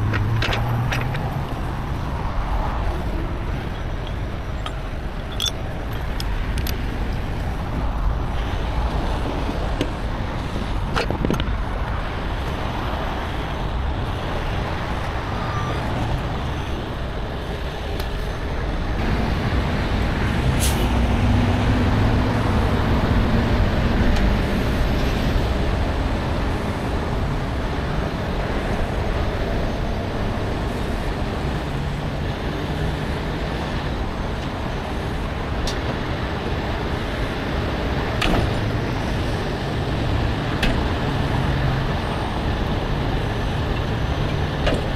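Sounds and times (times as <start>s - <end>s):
road and traffic noise: 0.0s - 44.9s.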